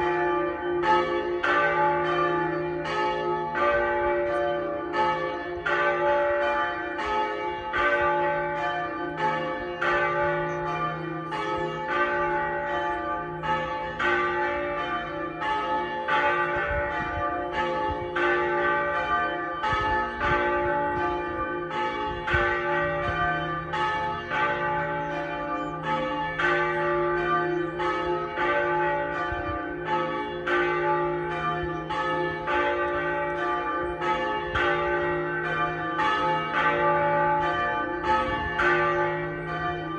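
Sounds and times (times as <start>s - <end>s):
church tower bells ringing: 0.0s - 39.9s.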